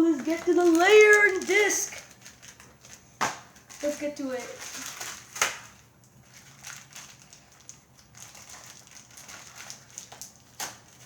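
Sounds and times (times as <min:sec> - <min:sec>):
plastic packaging crinkling: 0:00.0 - 0:11.0
sharp plastic crack: 0:00.1 - 0:11.0.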